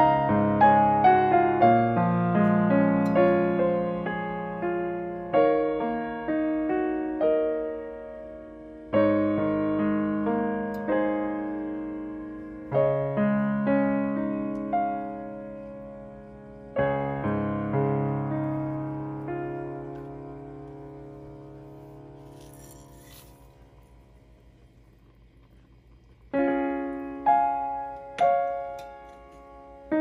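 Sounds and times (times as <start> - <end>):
slow gentle piano music: 0.0 - 30.0.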